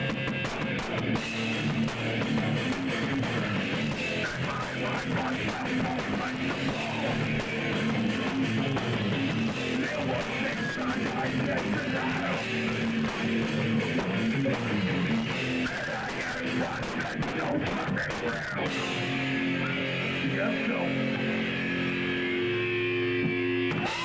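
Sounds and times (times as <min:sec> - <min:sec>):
electric guitar: 0:00.0 - 0:24.0
punk rock band playing live: 0:00.0 - 0:24.0.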